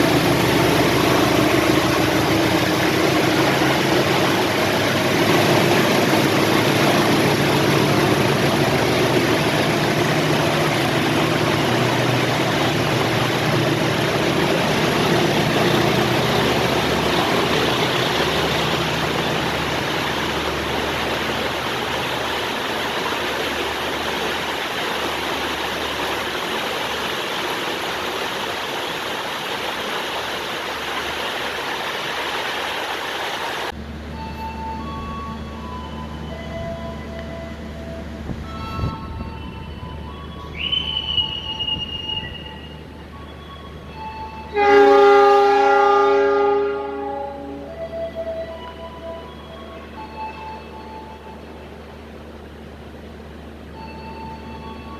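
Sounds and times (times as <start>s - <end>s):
diesel locomotive engine running: 0.0s - 54.9s.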